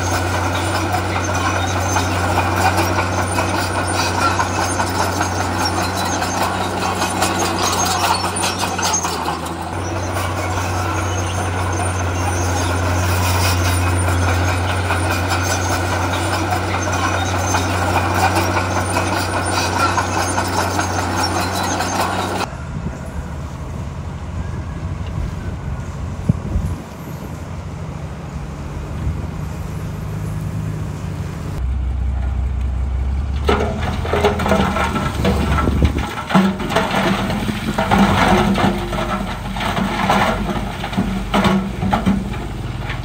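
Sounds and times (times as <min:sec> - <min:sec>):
heavy diesel machinery engine hum: 0:00.0 - 0:43.0.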